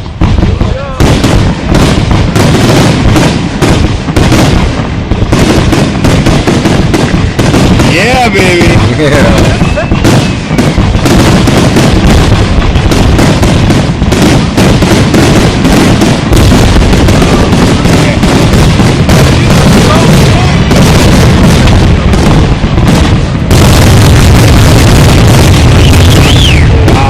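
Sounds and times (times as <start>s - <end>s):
fireworks booms and crackles: 0.0s - 27.0s.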